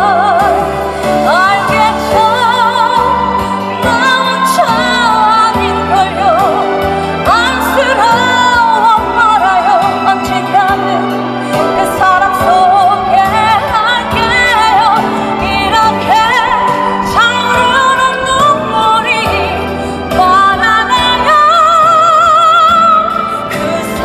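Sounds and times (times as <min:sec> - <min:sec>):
instrumental accompaniment: 0:00.0 - 0:24.0
woman singing with vibrato: 0:00.0 - 0:24.0.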